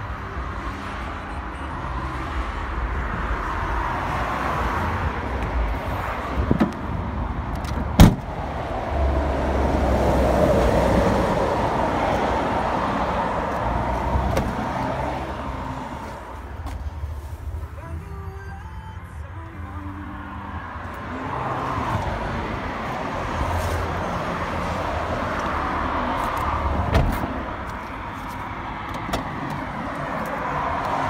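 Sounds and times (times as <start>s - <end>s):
vehicles passing: 0.0s - 31.0s.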